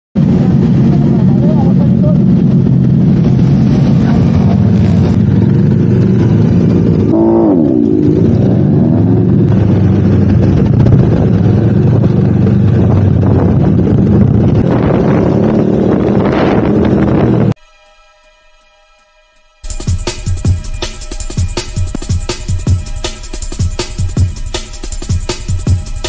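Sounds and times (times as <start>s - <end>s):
motorcycle engine running: 0.2s - 17.6s, 19.6s - 26.0s.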